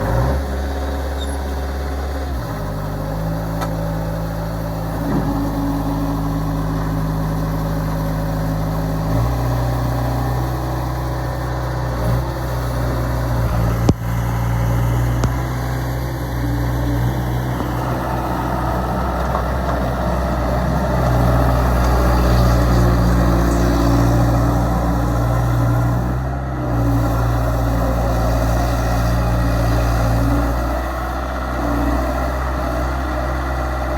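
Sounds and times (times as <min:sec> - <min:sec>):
skid steer diesel engine running: 0:00.0 - 0:33.9.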